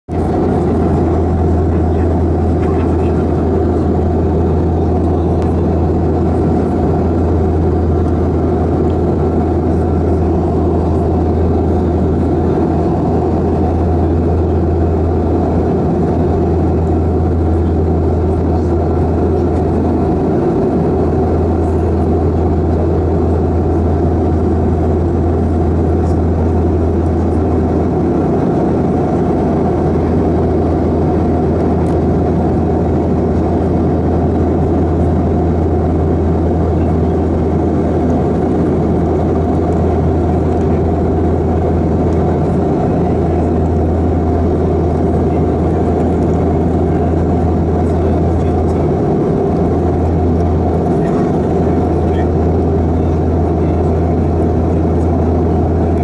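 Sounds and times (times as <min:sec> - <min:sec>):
airliner engines droning: 0:00.1 - 0:56.0.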